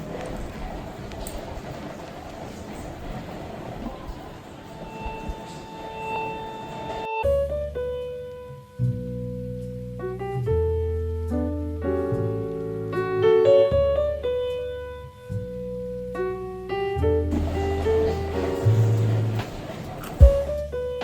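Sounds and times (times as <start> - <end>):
piano piece: 3.9 - 21.0.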